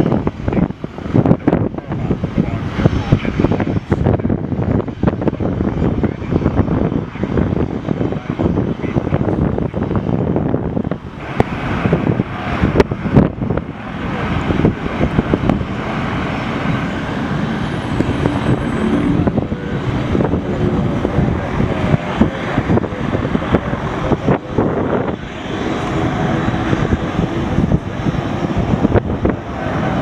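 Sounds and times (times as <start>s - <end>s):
jet rumble: 0.0s - 30.0s
wind buffeting the microphone: 0.0s - 30.0s.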